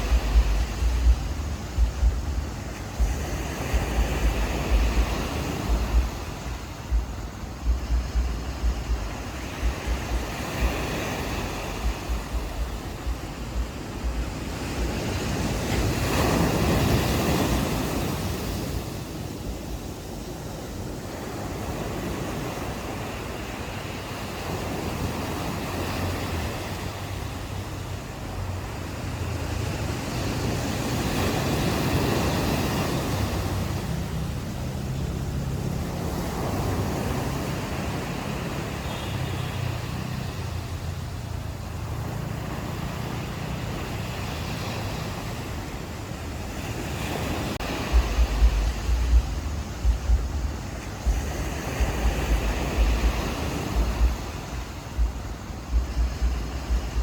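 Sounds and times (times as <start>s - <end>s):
ocean waves washing onto beach: 0.0s - 57.0s
wind buffeting microphone: 0.0s - 57.0s.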